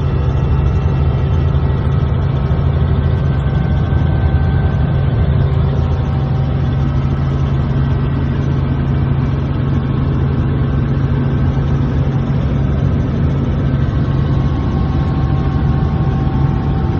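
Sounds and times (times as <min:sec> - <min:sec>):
helicopter engine and rotors: 0:00.0 - 0:16.9.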